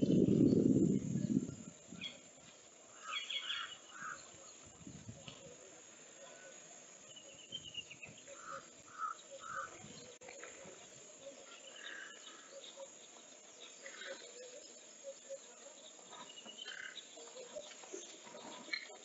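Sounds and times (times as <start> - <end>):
bird calls: 0.0 - 5.6, 6.2 - 19.0
faint steady hiss: 0.0 - 19.0.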